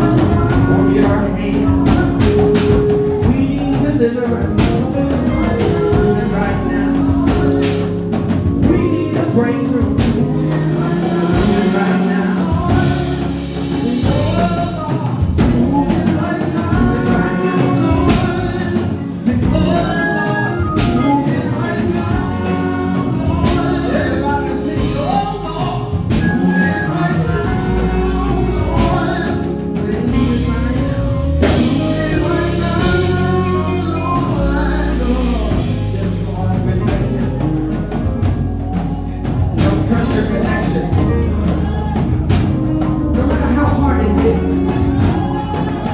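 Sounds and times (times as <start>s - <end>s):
keyboard accompaniment: 0.0s - 45.9s
low bass line: 0.0s - 45.9s
voices singing gospel: 0.0s - 45.9s.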